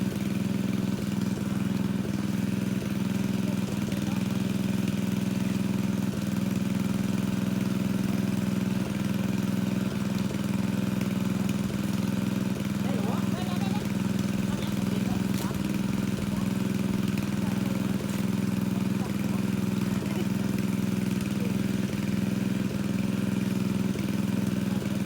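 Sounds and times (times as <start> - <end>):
water pump engine running: 0.0 - 25.0.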